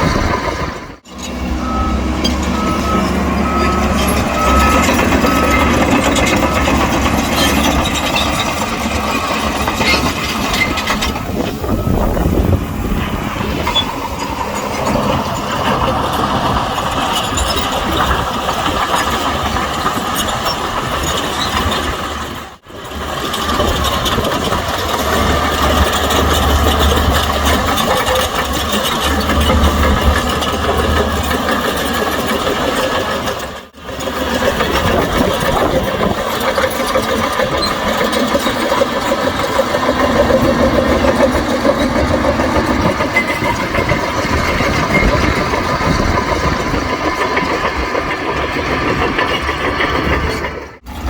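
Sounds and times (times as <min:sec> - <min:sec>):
heavy diesel engine rumbling: 0:00.0 - 0:51.0.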